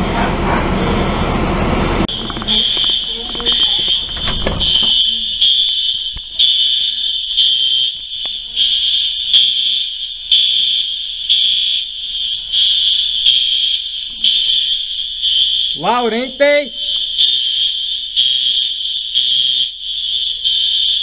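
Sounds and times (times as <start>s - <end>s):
pulsing fire alarm tone: 2.1s - 21.0s.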